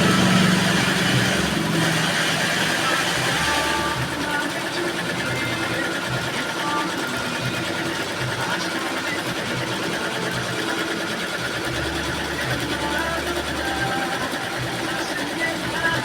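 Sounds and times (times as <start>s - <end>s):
embroidery machine stitching: 0.0s - 16.0s.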